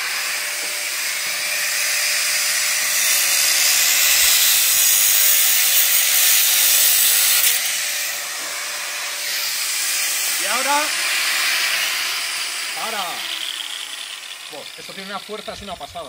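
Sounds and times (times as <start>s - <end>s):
angle grinder cutting metal: 0.0s - 16.0s.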